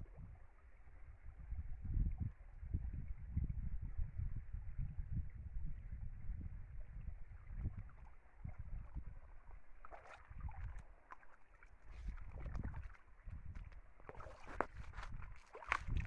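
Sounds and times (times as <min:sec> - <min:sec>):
wind buffeting microphone: 0:00.0 - 0:10.8, 0:11.9 - 0:16.0
small stream running: 0:00.0 - 0:16.0.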